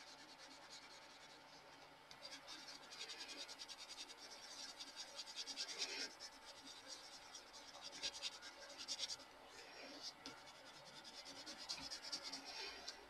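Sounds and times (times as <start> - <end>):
coloured pencil scratching on paper: 0.0 - 13.0.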